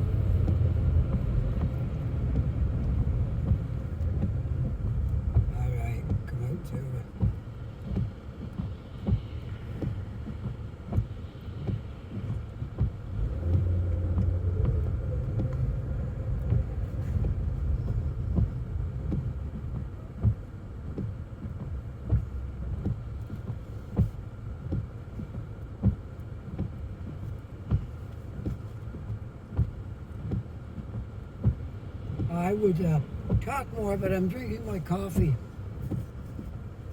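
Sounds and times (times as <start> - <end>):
car cabin road rumble: 0.0 - 36.9
windshield wipers knocking: 0.0 - 36.9.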